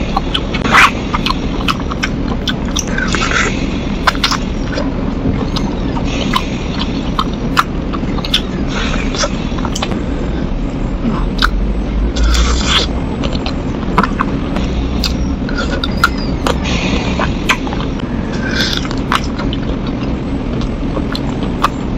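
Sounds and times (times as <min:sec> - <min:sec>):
low background rumble: 0:00.0 - 0:21.9
sharp clicks of chewed bones: 0:00.1 - 0:10.0, 0:11.4 - 0:11.6, 0:12.2 - 0:16.6, 0:17.2 - 0:21.8
wet chewing and lip smacks: 0:00.1 - 0:10.0, 0:11.3 - 0:11.6, 0:12.2 - 0:16.6, 0:17.2 - 0:21.8.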